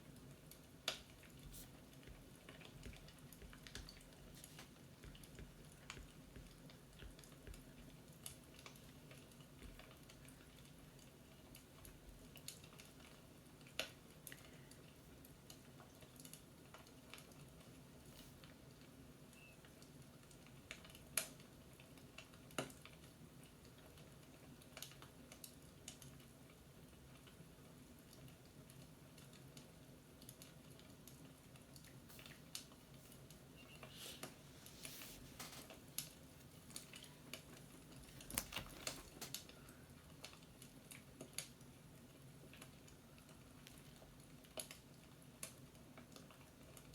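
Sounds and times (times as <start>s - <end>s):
fireplace crackle with pops: 0.0s - 46.9s.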